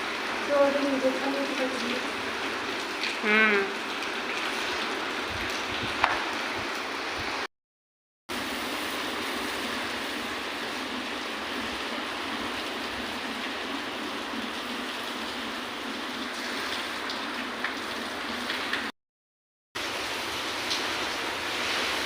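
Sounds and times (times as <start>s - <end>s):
heavy rain pouring: 0.0s - 7.5s, 8.3s - 18.9s, 19.8s - 22.0s.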